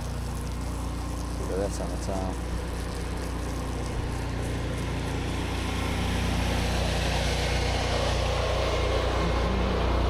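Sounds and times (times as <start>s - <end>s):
pressure washer engine running: 0.0s - 10.0s
water spraying onto concrete: 0.0s - 10.0s.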